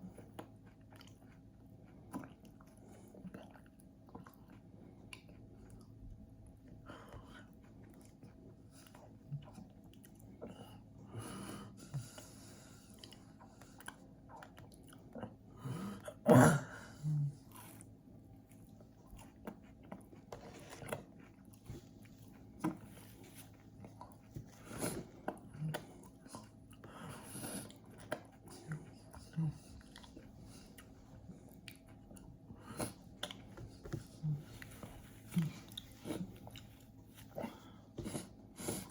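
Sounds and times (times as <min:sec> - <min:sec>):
person chewing crunchy treat: 0:00.0 - 0:11.1, 0:17.2 - 0:38.9.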